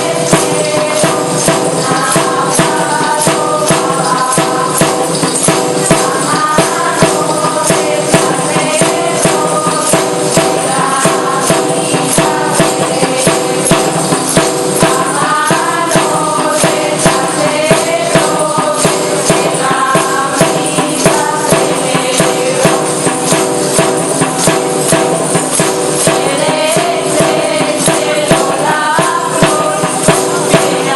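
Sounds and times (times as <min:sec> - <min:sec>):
tambourine jingling: 0:00.0 - 0:30.9.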